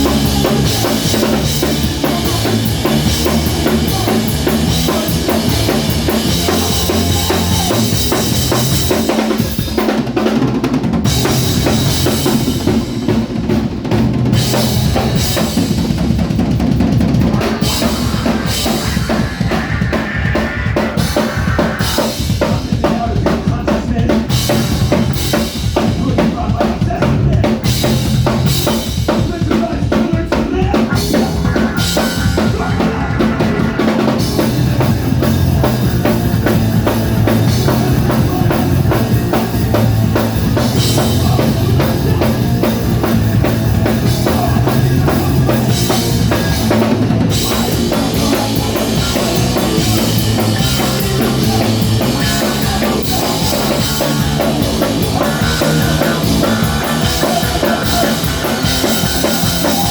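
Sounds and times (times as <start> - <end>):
drum kit playing: 0.0 - 59.9
rock band playing live: 0.0 - 59.9.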